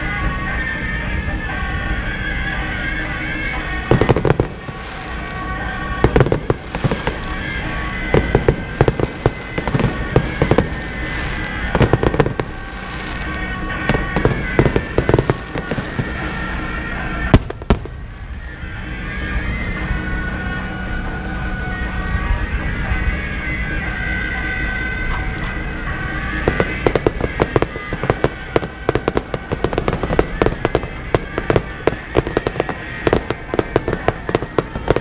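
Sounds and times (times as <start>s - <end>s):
procession music: 0.0s - 35.0s
fireworks bangs: 1.4s - 21.4s, 22.2s - 35.0s.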